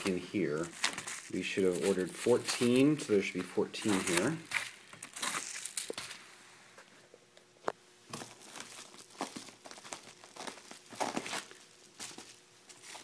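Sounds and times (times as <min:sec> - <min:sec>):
bubble wrap crinkling: 0:00.0 - 0:06.3, 0:08.1 - 0:13.0.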